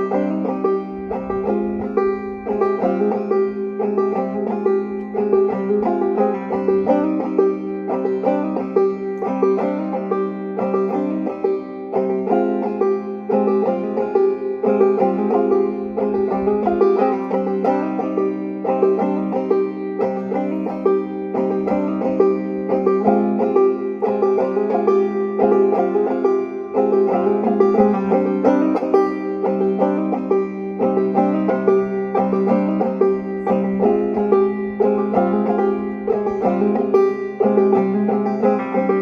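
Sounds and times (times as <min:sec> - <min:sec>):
banjo plucked notes: 0:00.0 - 0:39.0.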